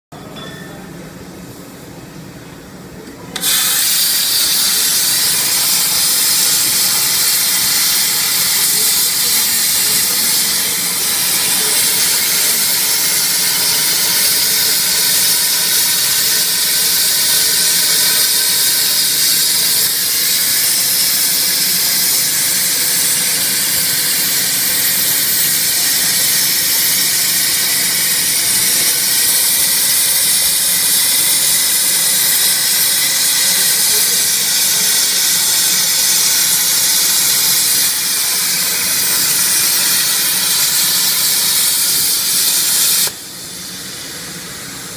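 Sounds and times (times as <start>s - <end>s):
plasma torch hissing: 3.4s - 44.9s.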